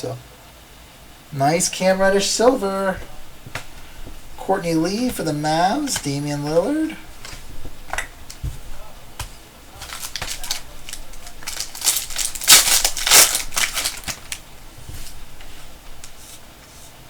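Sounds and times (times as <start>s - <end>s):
card packaging crinkling and rustling: 1.8s - 16.2s.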